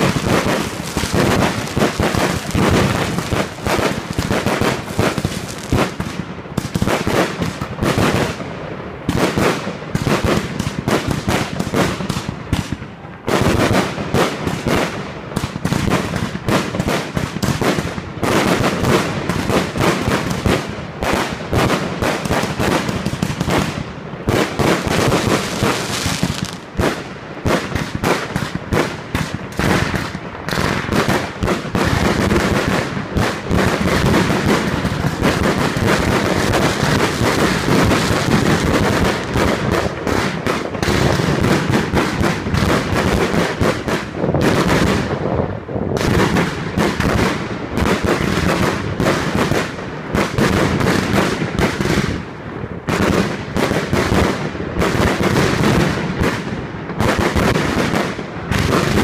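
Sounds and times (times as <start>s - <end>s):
fireworks crackling and bangs: 0.0s - 59.0s
loud firework burst: 0.0s - 59.0s.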